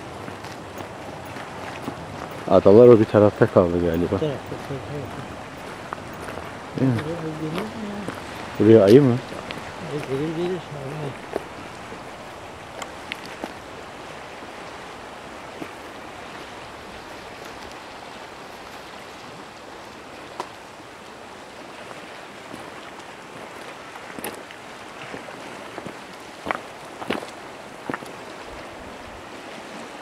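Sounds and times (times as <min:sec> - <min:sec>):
waves washing over rocks: 0:00.0 - 0:30.0
wind: 0:00.0 - 0:30.0.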